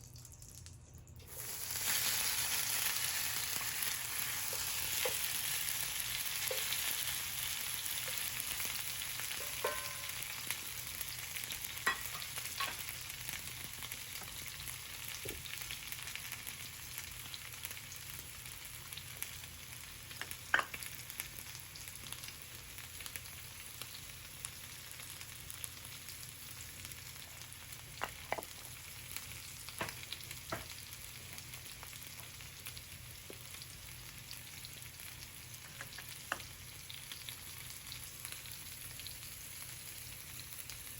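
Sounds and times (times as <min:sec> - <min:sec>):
food sizzling in a pan: 0:01.2 - 0:40.9.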